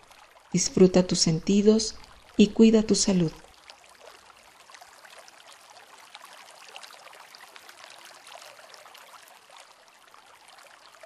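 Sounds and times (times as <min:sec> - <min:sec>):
water hiss with dripping ticks: 0:01.6 - 0:11.0.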